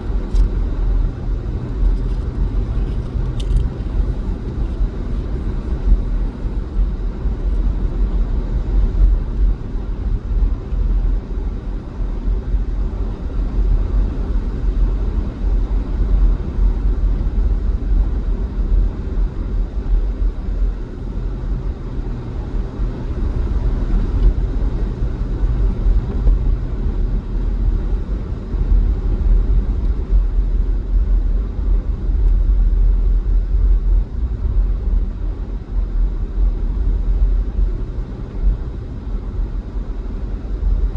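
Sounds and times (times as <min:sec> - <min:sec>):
car driving on highway: 0:00.0 - 0:40.9.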